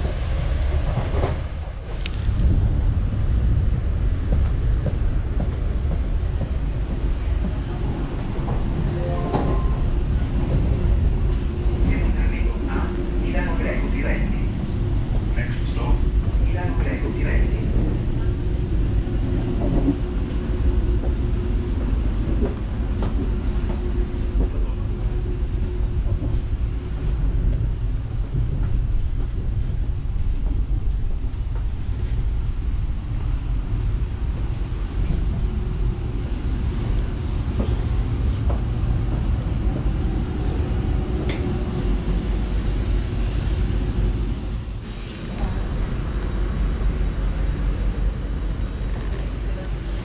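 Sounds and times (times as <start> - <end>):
train running rumble: 0.0 - 50.0.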